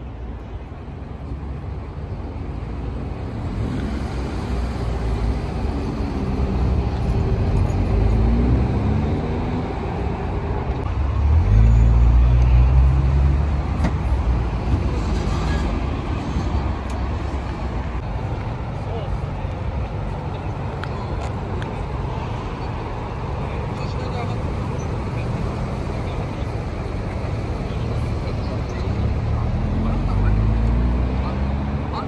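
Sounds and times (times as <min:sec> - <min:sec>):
car engines passing: 0:00.0 - 0:32.0.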